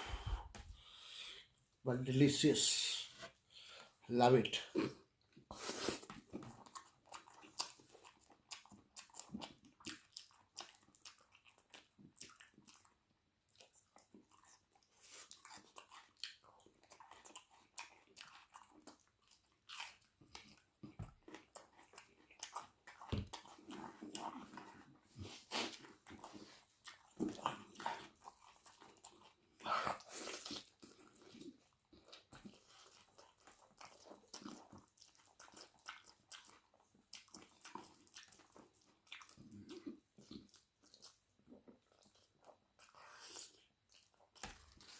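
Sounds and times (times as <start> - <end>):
person chewing and crunching: 4.6 - 44.9.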